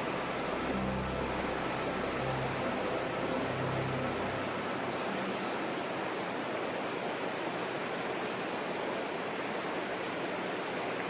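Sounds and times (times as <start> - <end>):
water flowing: 0.0 - 11.0.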